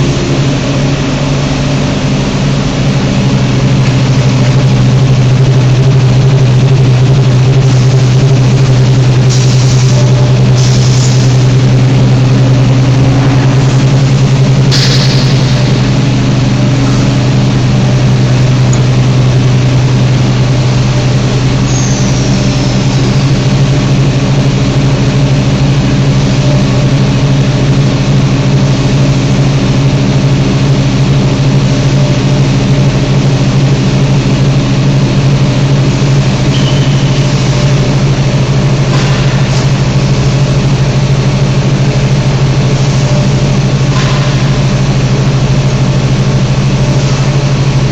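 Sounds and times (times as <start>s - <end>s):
motors and fans humming: 0.0s - 47.9s.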